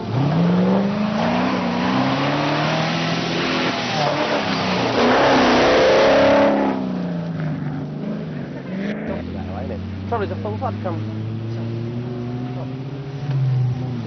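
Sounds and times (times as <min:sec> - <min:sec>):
buggy engine revving through mud: 0:00.0 - 0:14.0.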